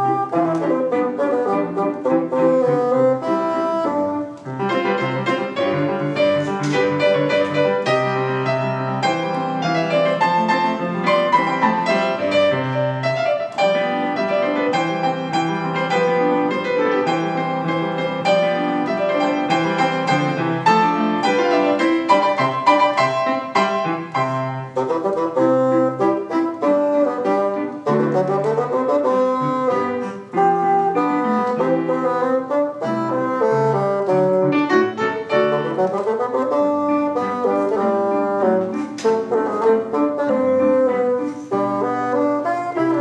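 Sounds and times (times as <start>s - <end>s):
bassoon: 0.0s - 43.0s
piano: 0.0s - 43.0s.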